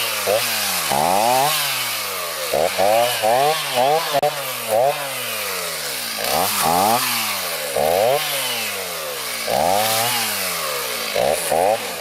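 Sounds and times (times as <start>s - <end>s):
chainsaw revving while cutting tree: 0.0s - 12.0s.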